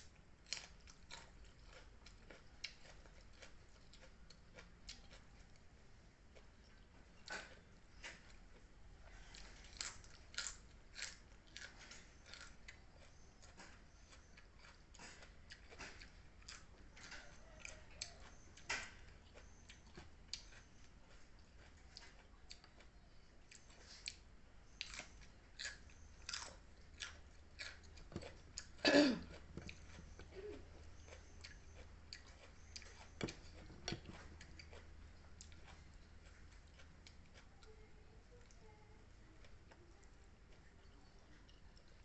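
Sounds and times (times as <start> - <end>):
person chewing: 0.0 - 37.8.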